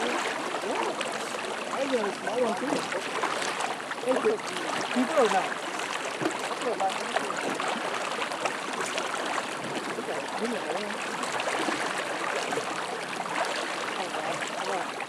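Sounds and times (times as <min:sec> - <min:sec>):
rushing river current: 0:00.0 - 0:15.0.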